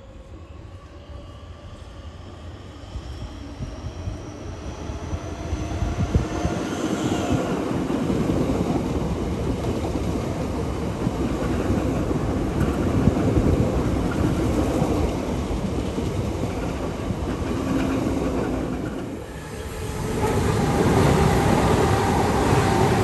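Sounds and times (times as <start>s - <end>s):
electric train rumbling past: 0.0s - 23.0s.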